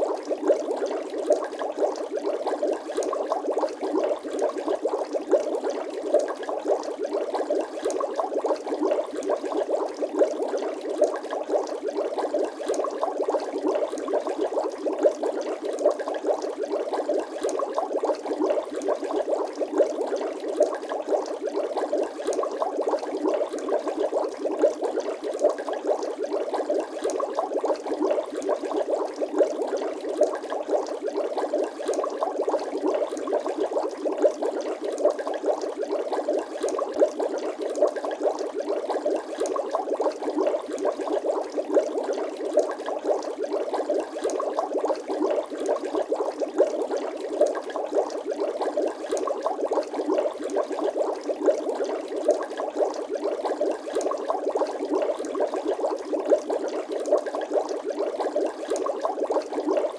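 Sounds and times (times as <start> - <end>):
water bubbling: 0.0 - 59.9.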